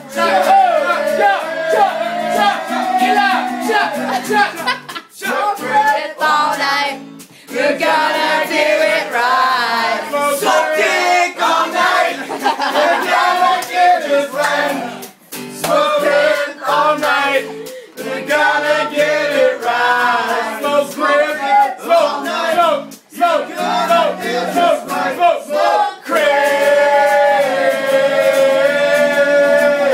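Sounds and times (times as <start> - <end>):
group of voices singing: 0.0 - 29.9.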